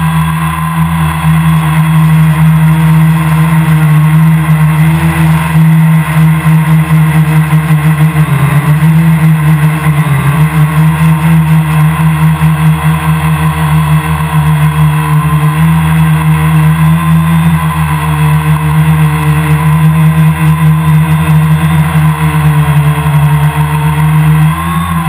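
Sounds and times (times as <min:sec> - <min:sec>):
quadcopter propellers whining: 0:00.0 - 0:25.0.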